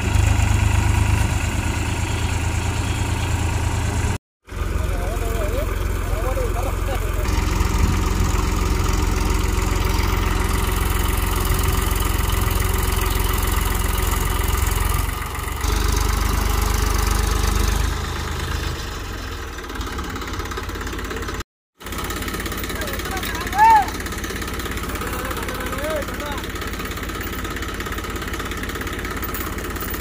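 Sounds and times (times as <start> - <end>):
tractor diesel engines rumbling: 0.0 - 30.0.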